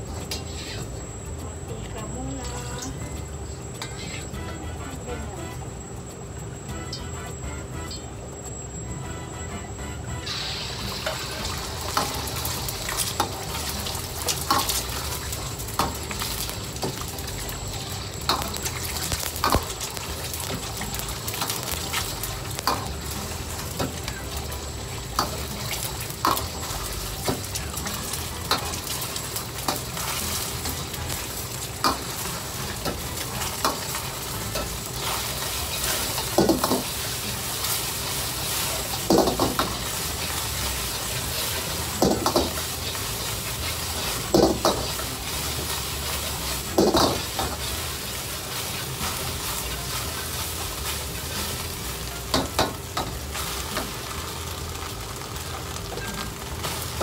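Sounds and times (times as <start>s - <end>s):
egg and rice sizzling in wok: 0.0s - 5.4s, 6.0s - 57.0s.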